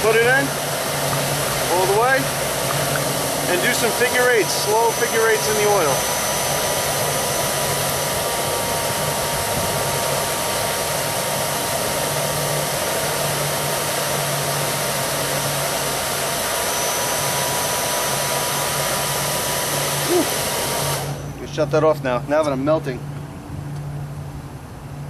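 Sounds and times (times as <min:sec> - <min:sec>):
electric blower rushing air: 0:00.0 - 0:21.4
faint steady whine: 0:00.0 - 0:25.0.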